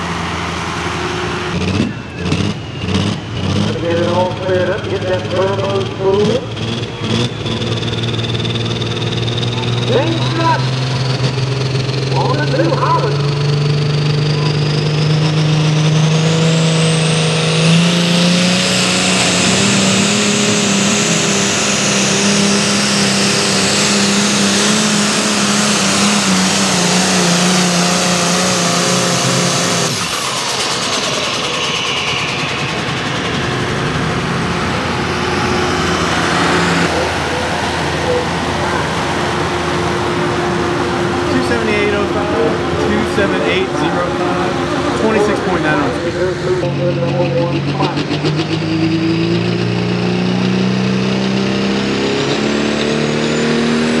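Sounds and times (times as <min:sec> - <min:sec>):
diesel engine at full throttle: 0:00.0 - 0:54.0
high turbo whine: 0:00.0 - 0:54.0.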